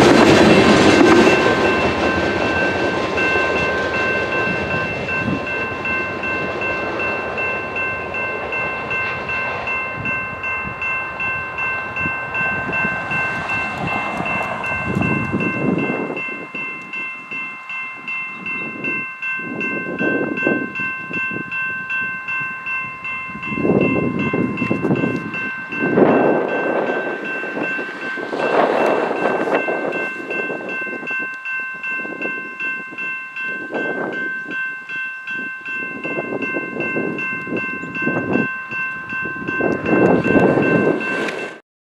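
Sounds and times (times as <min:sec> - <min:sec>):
crossing bells ringing: 0:00.0 - 0:41.6
freight train cars rumbling: 0:00.0 - 0:41.6.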